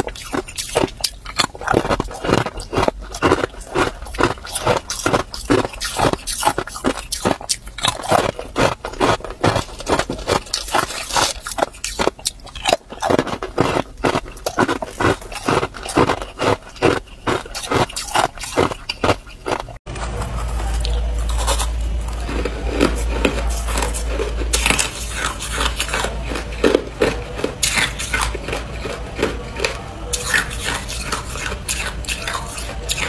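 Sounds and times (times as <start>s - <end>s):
ice cubes crunched between teeth: 0.0s - 19.8s, 20.4s - 33.0s.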